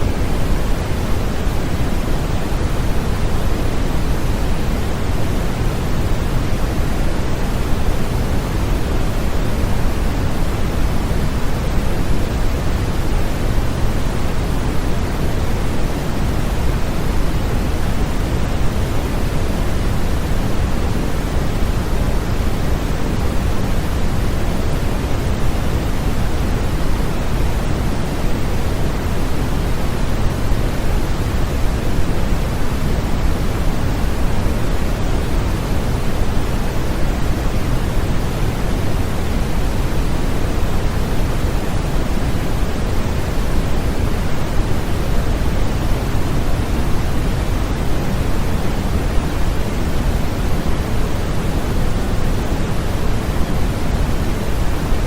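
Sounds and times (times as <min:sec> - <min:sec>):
steady low hiss noise: 0:00.0 - 0:55.0.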